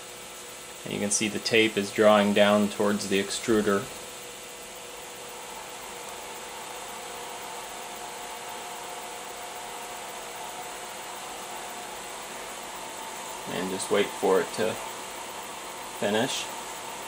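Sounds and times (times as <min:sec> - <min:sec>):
cooling fan rushing: 0:00.0 - 0:17.0
stepper motor whine: 0:00.0 - 0:17.0.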